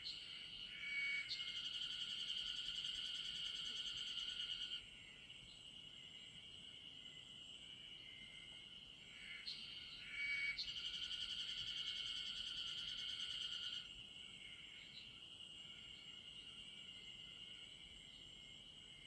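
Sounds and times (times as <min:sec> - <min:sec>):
insect chorus: 0:00.0 - 0:19.0
rapidly pulsing insect trill: 0:00.0 - 0:19.0.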